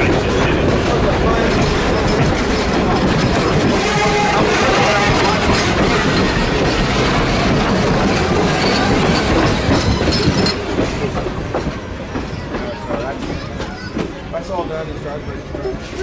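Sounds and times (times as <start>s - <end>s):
train wheels clicking over rails: 0.0s - 16.0s.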